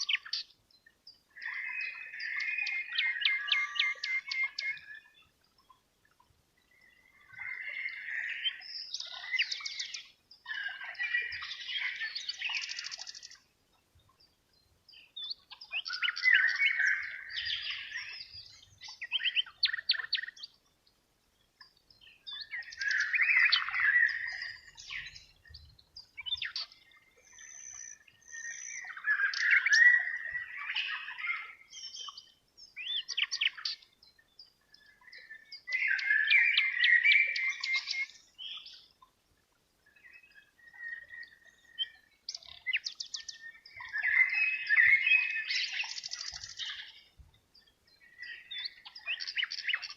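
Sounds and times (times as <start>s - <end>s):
songbird singing with trills: 0.0s - 39.2s, 39.8s - 49.9s.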